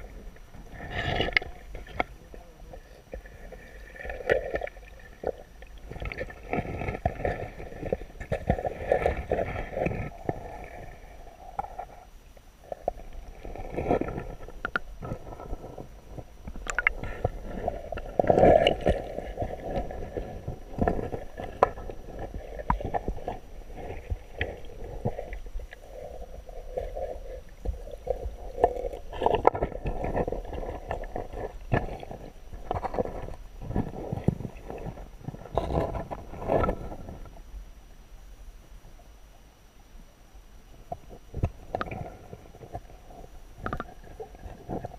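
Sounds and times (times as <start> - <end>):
muffled underwater gurgling: 0.0 - 37.5.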